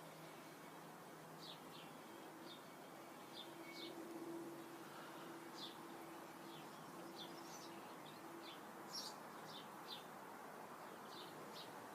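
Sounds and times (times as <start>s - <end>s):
birds chirping: 0.0s - 10.2s, 10.8s - 11.9s
faint outdoor hiss: 0.0s - 11.9s.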